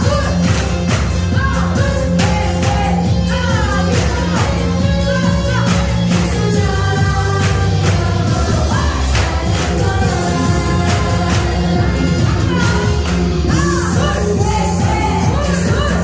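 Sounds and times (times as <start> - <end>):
upbeat pop song with singer: 0.0 - 16.0.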